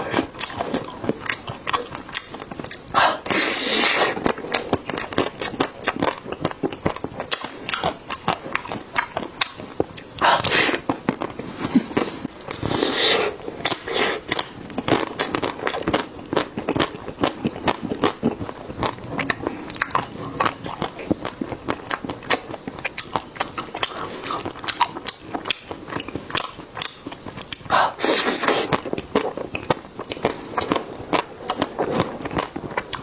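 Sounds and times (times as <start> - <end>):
person chewing and crunching: 0.0 - 33.0.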